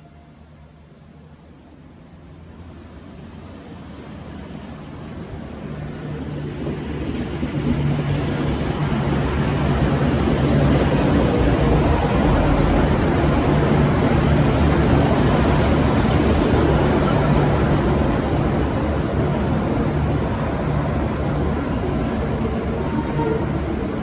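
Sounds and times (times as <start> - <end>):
diesel train passing: 0.0 - 24.0.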